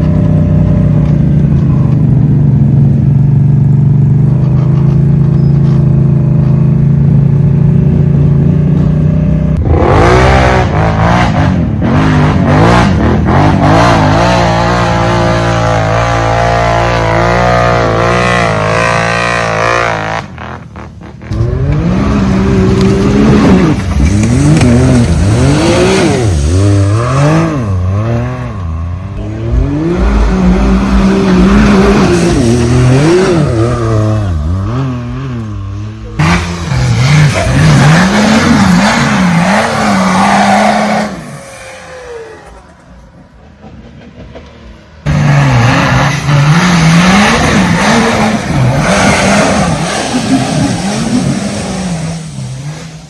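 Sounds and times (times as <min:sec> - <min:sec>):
off-road engines revving: 0:00.0 - 0:44.3, 0:45.0 - 0:53.0.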